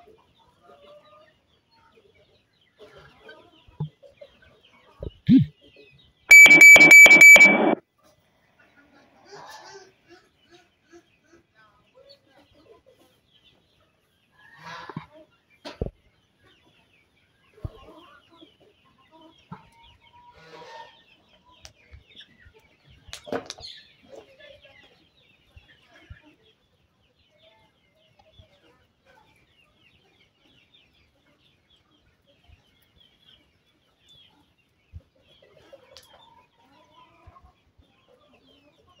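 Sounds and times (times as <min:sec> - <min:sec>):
chickens clucking: 0:00.0 - 0:06.0, 0:08.6 - 0:39.0.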